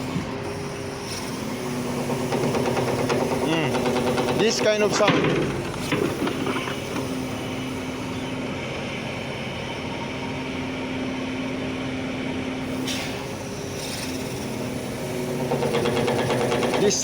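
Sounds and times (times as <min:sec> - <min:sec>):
hydraulic machine engine running: 0:00.0 - 0:17.0.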